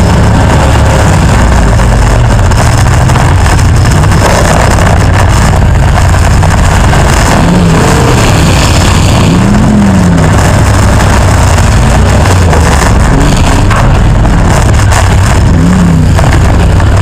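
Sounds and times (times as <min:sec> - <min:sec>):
car engines running: 0:00.0 - 0:17.0
engine revving: 0:00.0 - 0:17.0.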